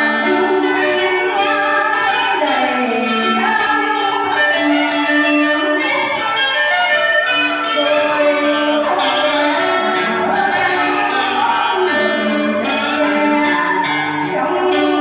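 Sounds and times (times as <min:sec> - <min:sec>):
singing over instrumental music: 0:00.0 - 0:06.2, 0:07.6 - 0:15.0.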